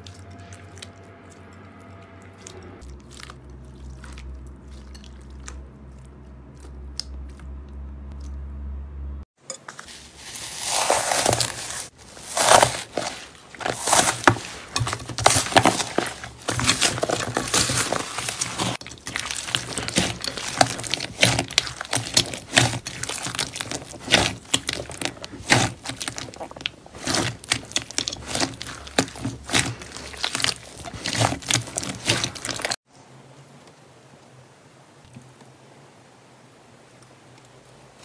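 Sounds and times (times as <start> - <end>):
slime crackling and squelching: 0.0 - 8.3, 9.9 - 32.8.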